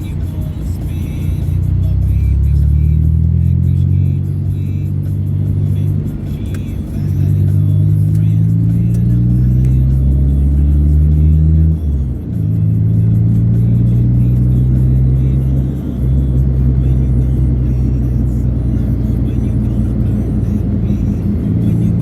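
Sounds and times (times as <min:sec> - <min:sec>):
bass-heavy music on car stereo: 0:00.0 - 0:22.0
car road and engine noise: 0:00.0 - 0:22.0.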